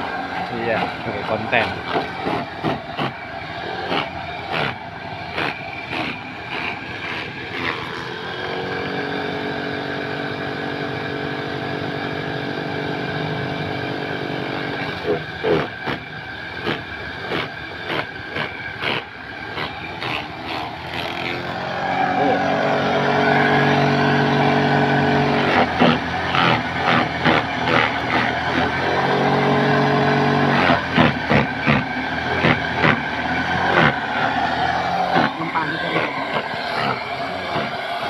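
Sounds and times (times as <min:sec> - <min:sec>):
chopper machine motor: 0:00.0 - 0:38.0.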